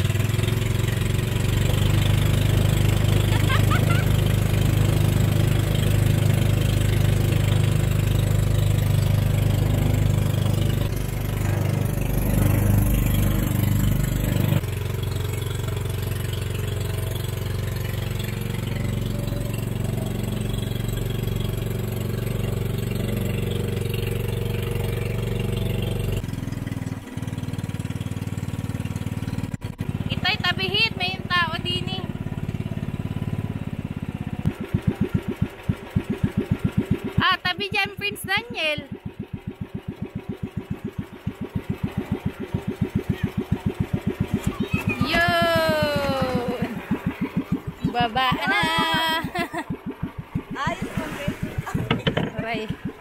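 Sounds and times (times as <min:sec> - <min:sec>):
small boat engine running: 0:00.0 - 0:53.0.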